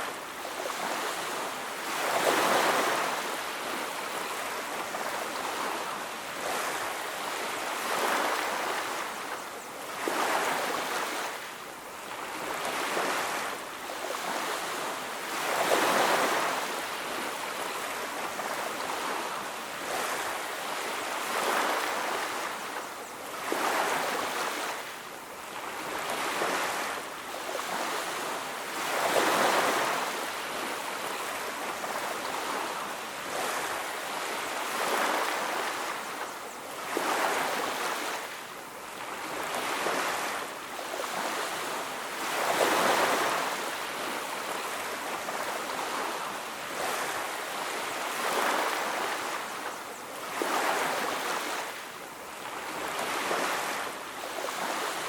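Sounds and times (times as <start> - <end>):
waves washing onto beach: 0.0 - 55.0.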